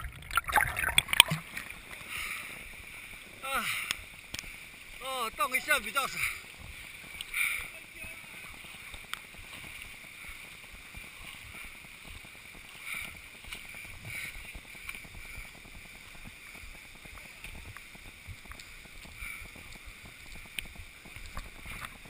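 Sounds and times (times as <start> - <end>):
muffled water noise: 0.0 - 22.0.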